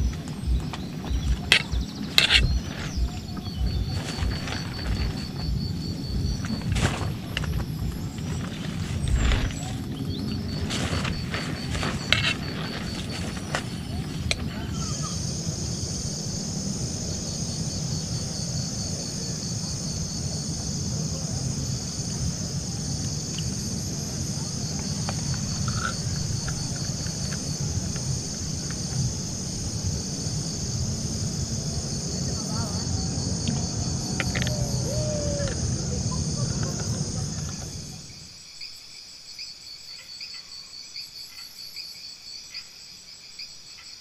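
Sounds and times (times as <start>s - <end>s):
wind on microphone: 0.0s - 38.3s
high-pitched insect chorus: 0.0s - 44.0s.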